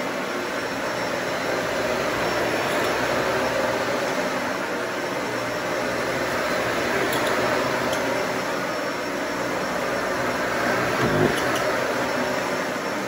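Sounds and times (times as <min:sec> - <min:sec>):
vacuum cleaner humming: 0:00.0 - 0:13.0.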